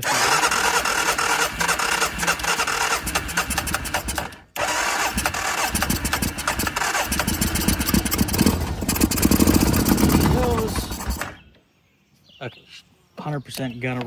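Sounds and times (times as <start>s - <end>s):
engine cranking on starter: 0.0s - 11.5s.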